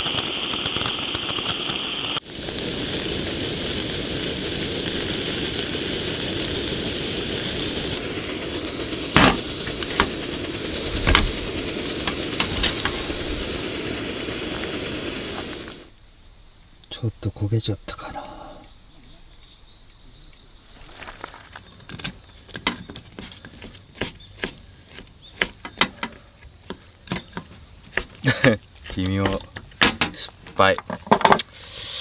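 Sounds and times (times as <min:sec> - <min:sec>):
campfire hissing and crackling: 0:00.0 - 0:32.0.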